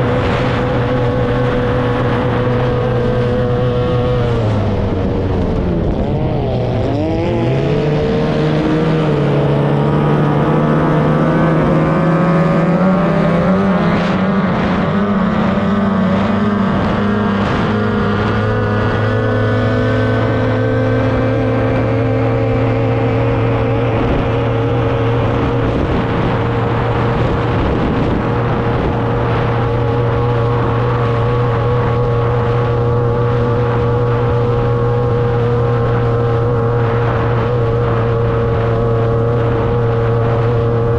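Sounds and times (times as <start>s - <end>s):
outboard engine running flat out: 0.0s - 40.9s.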